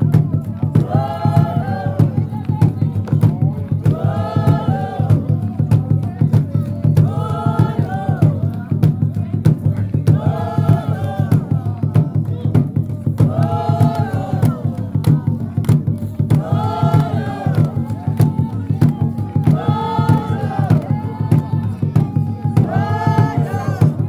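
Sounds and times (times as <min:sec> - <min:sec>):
fast steady drumming: 0:00.0 - 0:24.0
group of voices chanting: 0:00.0 - 0:24.0.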